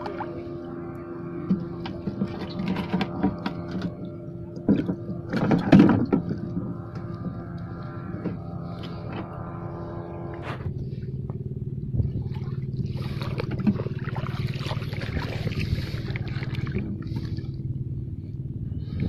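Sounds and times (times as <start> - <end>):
engine hum: 0.0 - 19.0
water sloshing from wading: 0.0 - 19.0.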